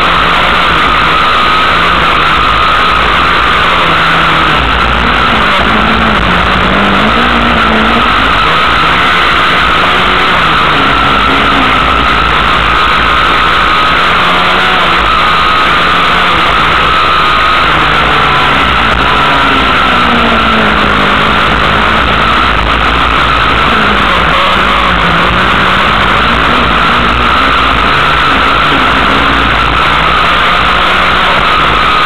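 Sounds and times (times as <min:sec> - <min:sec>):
race car engine: 0:00.0 - 0:32.0.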